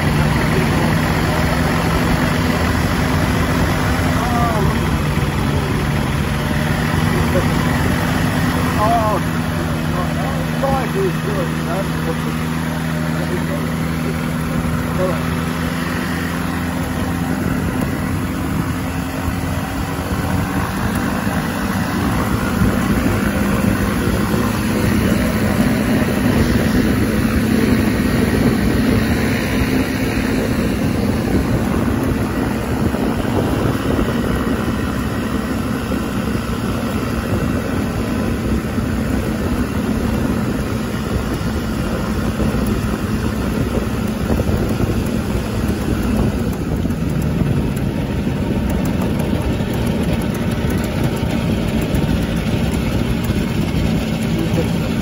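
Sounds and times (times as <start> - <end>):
microlight engine running: 0.0 - 55.0.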